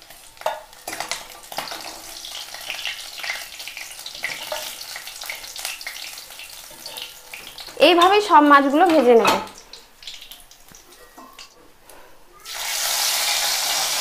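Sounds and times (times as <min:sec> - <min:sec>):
fish frying in oil: 0:00.0 - 0:10.9, 0:12.4 - 0:14.0.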